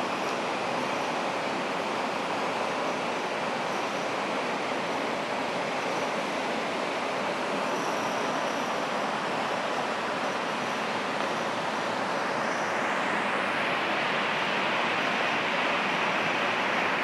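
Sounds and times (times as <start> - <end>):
room noise hiss: 0.0 - 17.0.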